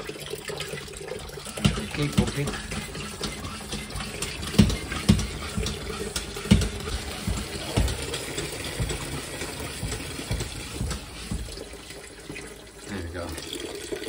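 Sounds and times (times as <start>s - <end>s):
water running into a bucket: 0.0s - 14.0s
low thumps of pump strokes: 0.8s - 12.7s.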